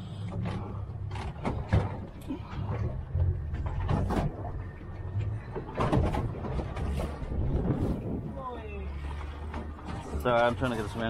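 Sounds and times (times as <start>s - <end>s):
boat motor rumble: 0.0s - 11.0s
sea: 0.0s - 11.0s
rope knocking and scraping on boat: 0.3s - 11.0s.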